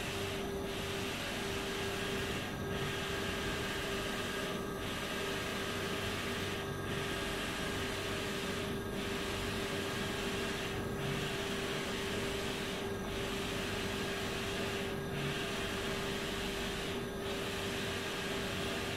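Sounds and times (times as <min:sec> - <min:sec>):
inkjet printer running: 0:00.0 - 0:18.9.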